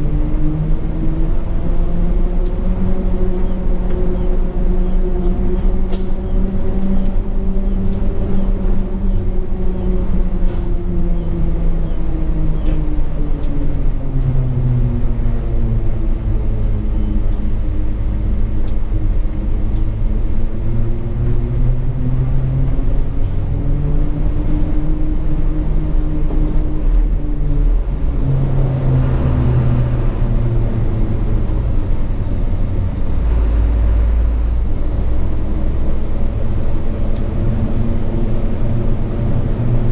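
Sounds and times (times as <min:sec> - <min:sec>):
truck diesel engine: 0:00.0 - 0:39.9.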